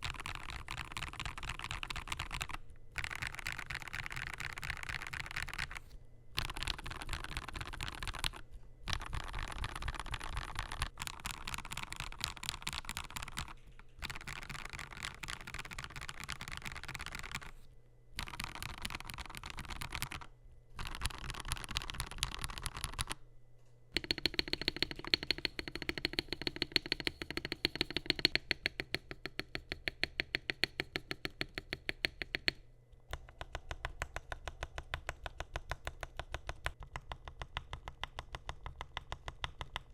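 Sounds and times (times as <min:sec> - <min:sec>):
typing on mechanical keyboard: 0:00.0 - 0:17.6, 0:18.2 - 0:23.2, 0:24.0 - 0:39.9.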